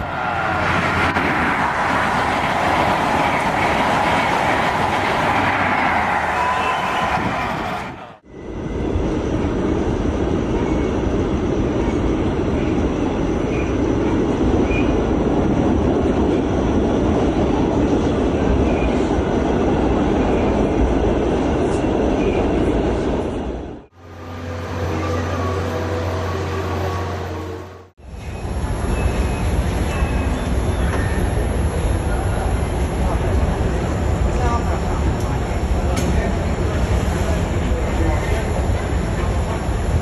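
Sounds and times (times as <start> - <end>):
train wheels rumbling on rails: 0.0 - 27.2, 28.1 - 40.0.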